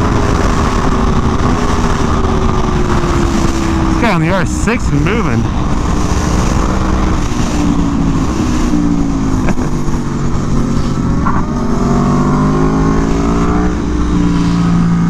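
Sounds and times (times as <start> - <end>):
motorcycle engine revving: 0.0 - 15.0
wind rush: 0.0 - 15.0.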